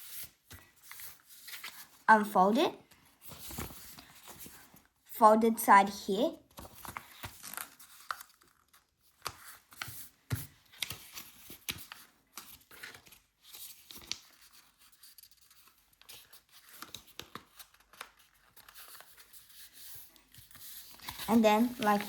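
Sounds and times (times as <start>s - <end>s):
paper rustling and crackling: 0.0s - 2.1s, 2.8s - 4.9s, 6.4s - 22.0s.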